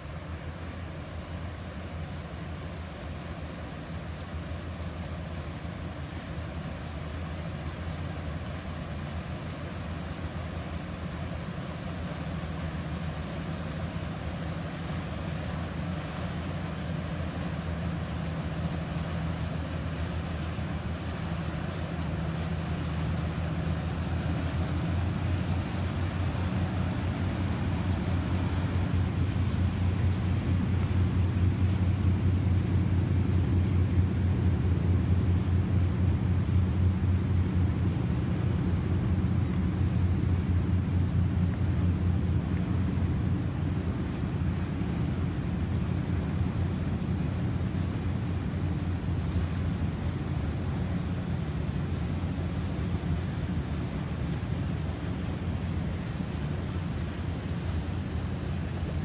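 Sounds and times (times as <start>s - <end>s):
motorboat engines droning: 0.0s - 59.0s.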